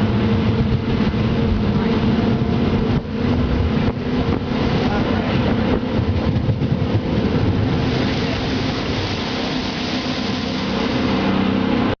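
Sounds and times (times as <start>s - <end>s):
jet boat engine humming: 0.0s - 12.0s
rush of noise: 0.0s - 12.0s.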